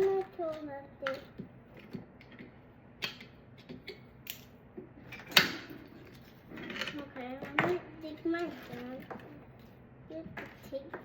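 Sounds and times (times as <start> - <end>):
plastic parts clicking and tapping: 0.0 - 9.3.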